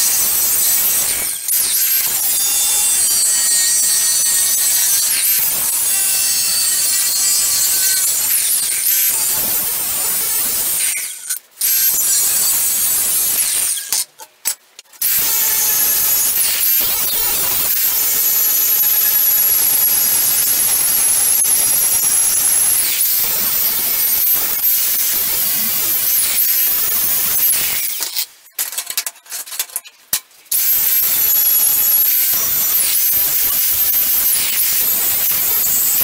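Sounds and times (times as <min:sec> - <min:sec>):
angle grinder grinding steel: 0:00.0 - 0:14.0, 0:15.0 - 0:28.2, 0:30.5 - 0:36.0.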